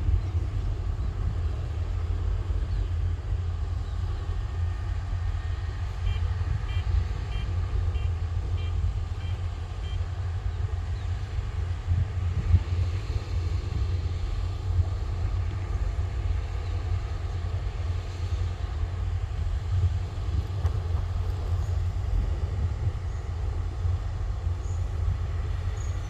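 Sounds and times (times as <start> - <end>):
harvester engine rumble: 0.0 - 26.0.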